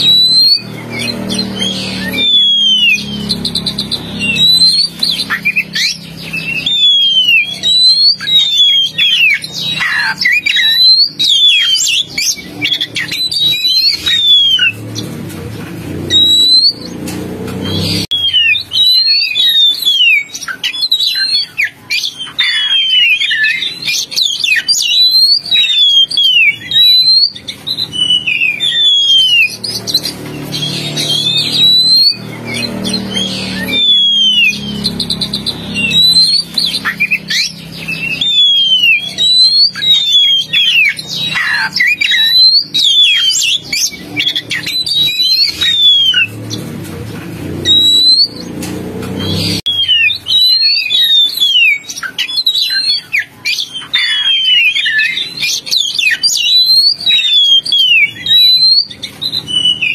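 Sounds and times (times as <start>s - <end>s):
bird singing whistled notes: 0.0s - 15.2s, 16.0s - 46.7s, 47.5s - 48.6s, 49.2s - 59.9s.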